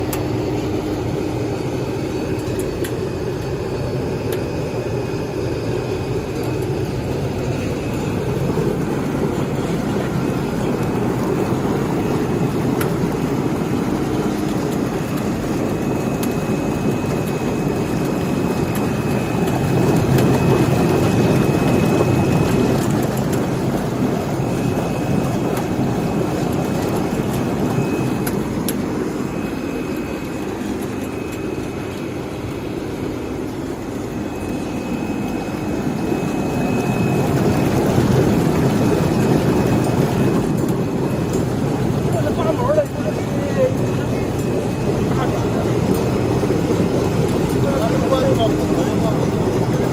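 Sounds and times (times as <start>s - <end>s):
high machine whine: 0.0s - 49.9s
processing machinery running: 0.0s - 49.9s.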